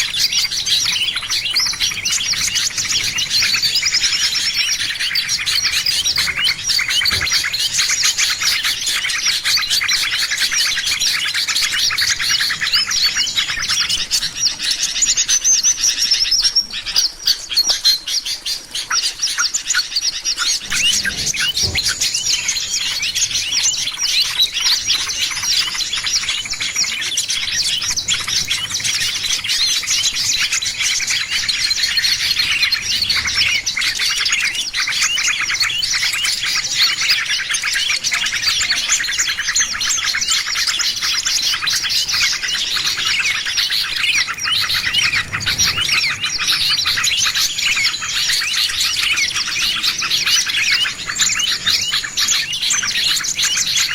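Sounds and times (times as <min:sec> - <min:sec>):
small birds chirping and twittering: 0:00.0 - 0:53.9.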